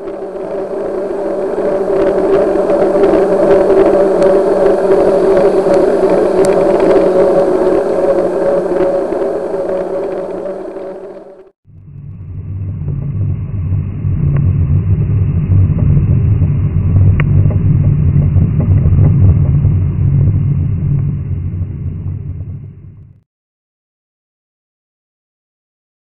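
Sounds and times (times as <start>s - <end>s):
wind and road noise rumble: 0.0s - 23.2s.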